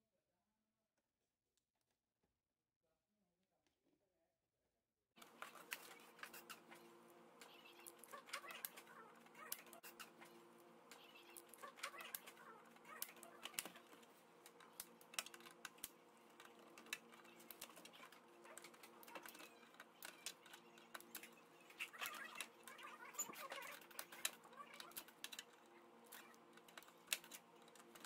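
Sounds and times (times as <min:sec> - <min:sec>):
steady low hum: 0:05.2 - 0:28.0.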